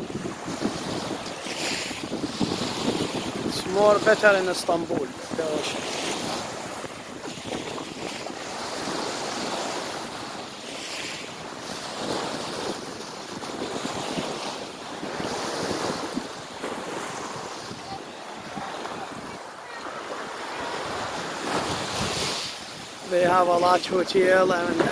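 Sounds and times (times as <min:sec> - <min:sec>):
waves washing over pebbles: 0:00.0 - 0:24.9.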